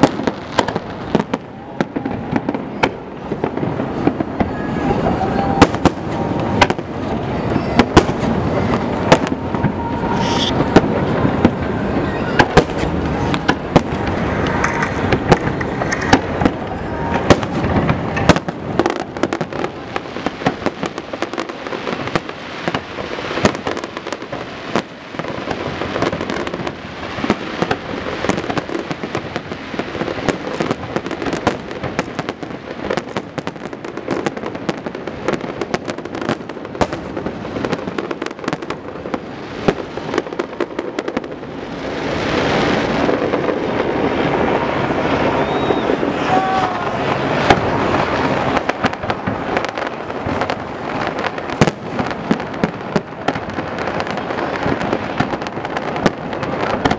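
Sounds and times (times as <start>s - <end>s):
rushing noise: 0.0s - 30.6s, 38.3s - 55.7s
fireworks bursting: 0.0s - 56.9s.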